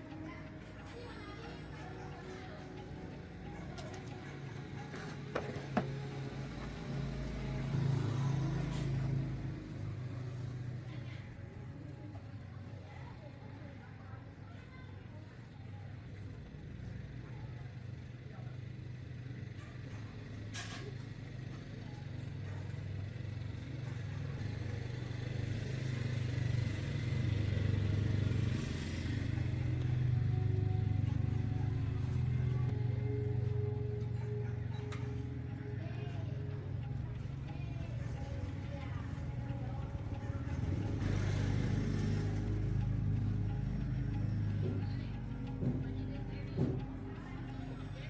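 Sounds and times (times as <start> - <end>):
engine humming: 0.0 - 13.4, 15.8 - 48.0.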